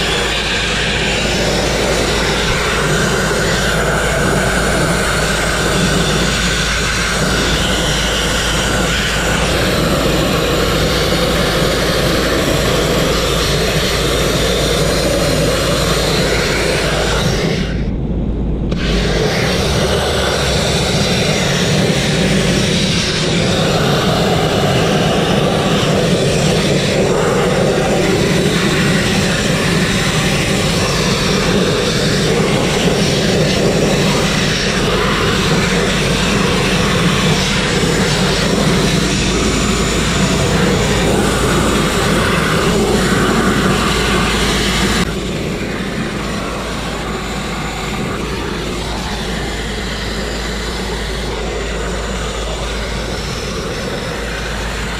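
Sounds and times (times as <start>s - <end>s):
grit blasting nozzle hissing on steel: 0.0s - 17.8s, 18.7s - 54.9s.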